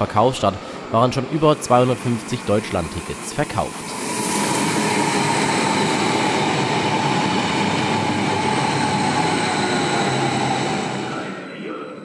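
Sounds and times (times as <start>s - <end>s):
train rolling rumble: 0.0s - 11.4s
thin train whine: 0.0s - 12.0s.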